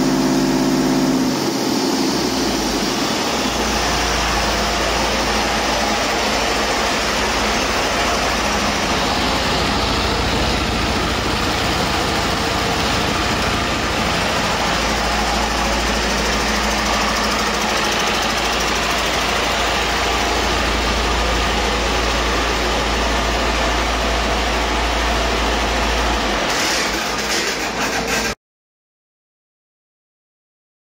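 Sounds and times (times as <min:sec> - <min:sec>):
truck diesel engine running: 0:00.0 - 0:28.4.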